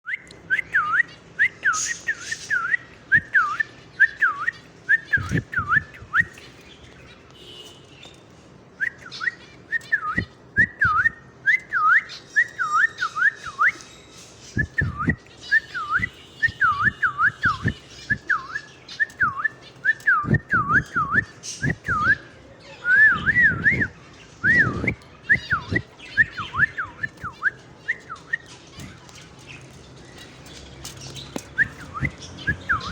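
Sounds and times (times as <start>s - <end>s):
cockatiels whistling: 0.1s - 6.5s, 8.8s - 13.9s, 14.6s - 28.9s, 31.3s - 32.9s.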